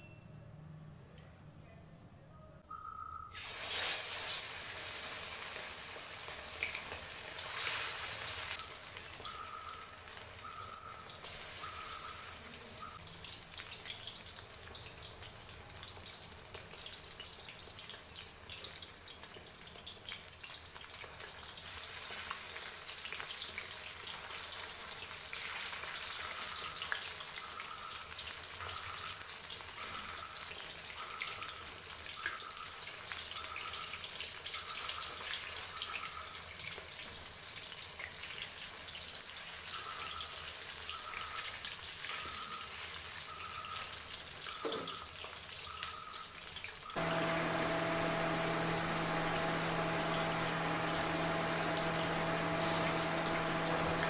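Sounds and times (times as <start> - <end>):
food sizzling in hot oil: 3.3 - 54.0.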